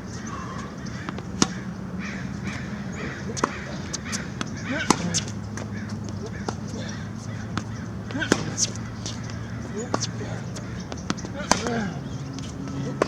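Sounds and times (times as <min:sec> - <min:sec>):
racquet striking tennis ball: 0:00.6 - 0:01.7, 0:02.3 - 0:13.0
tennis ball bouncing: 0:00.6 - 0:13.0.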